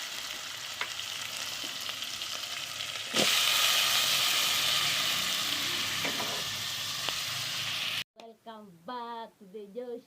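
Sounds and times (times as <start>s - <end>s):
food sizzling in hot oil: 0.0s - 8.1s.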